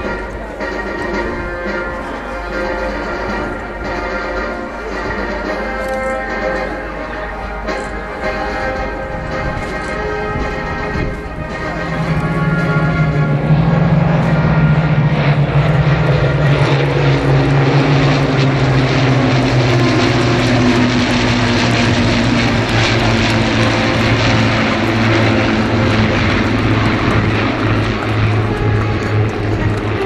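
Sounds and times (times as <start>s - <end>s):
propeller plane engines droning: 0.0s - 30.0s.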